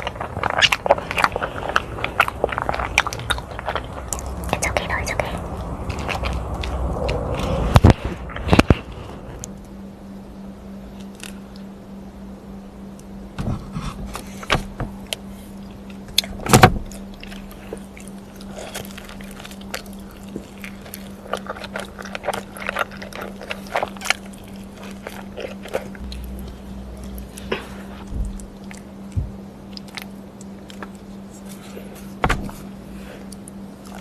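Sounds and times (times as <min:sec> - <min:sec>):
crunching and chewing: 0:00.0 - 0:09.9, 0:10.7 - 0:12.0, 0:12.8 - 0:34.0
steady low hum: 0:00.0 - 0:34.0.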